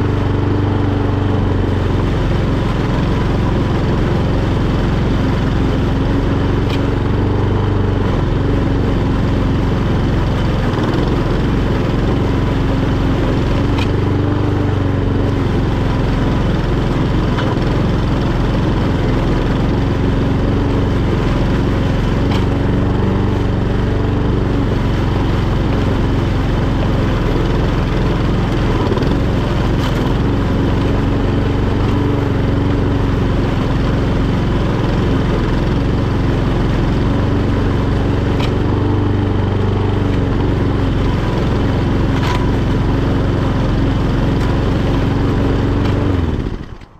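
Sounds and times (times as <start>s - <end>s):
lawnmower engine running: 0.0s - 46.9s.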